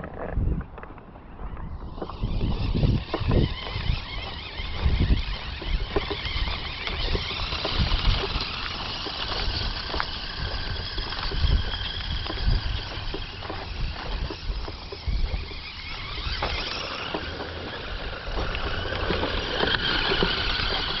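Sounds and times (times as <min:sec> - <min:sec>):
electric motors and gears whining: 0:00.0 - 0:21.0.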